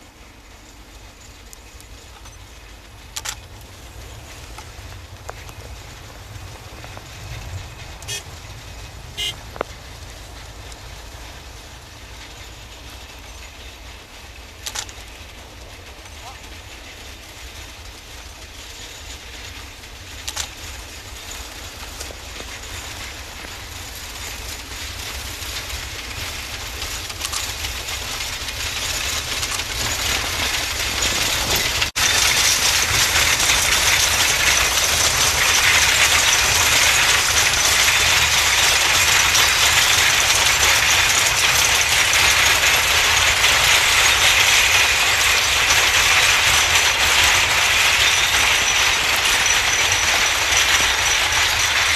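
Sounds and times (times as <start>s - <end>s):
steam train rattling past: 0.0s - 51.9s.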